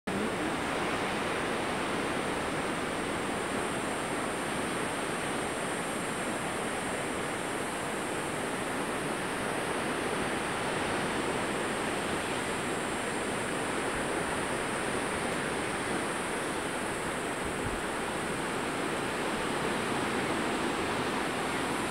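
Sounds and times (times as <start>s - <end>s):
distant surf on rocky shore: 0.1s - 21.9s.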